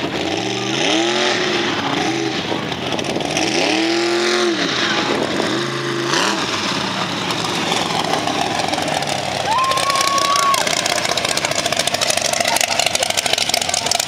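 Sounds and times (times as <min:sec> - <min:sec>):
pickup truck engine revving hard: 0:00.0 - 0:14.0
steady rush of noise: 0:00.0 - 0:14.0.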